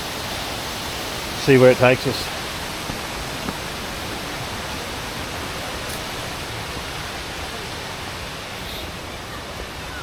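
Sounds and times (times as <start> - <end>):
creek water cascading: 0.0 - 10.0
waterfall rushing: 0.0 - 10.0.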